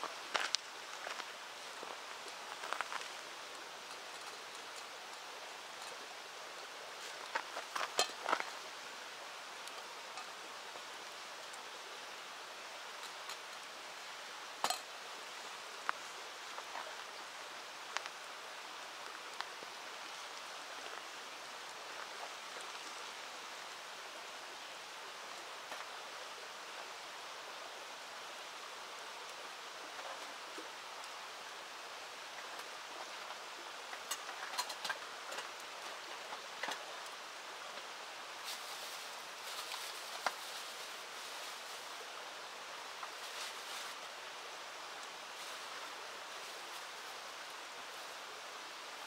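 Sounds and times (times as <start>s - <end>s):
river water flowing: 0.0s - 49.0s.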